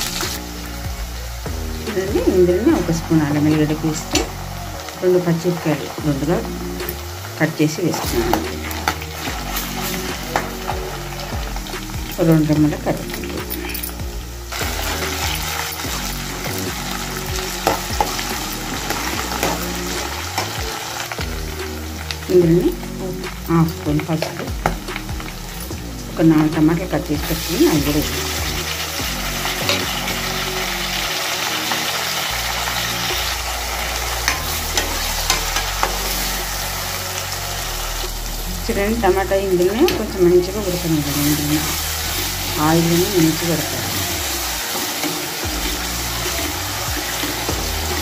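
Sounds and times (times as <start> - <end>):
vegetables sizzling in hot oil: 0.0 - 48.0.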